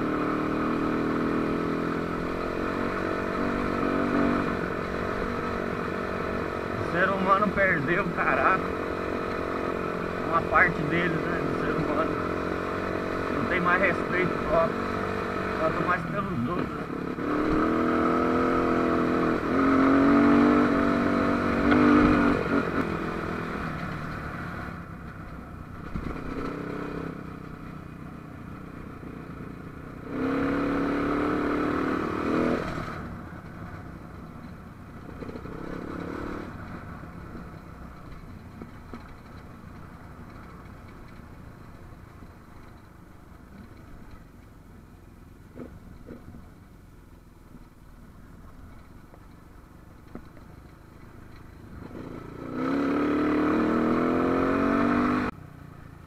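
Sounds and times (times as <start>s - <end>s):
motorcycle engine revving: 0.0s - 41.8s, 51.2s - 55.8s.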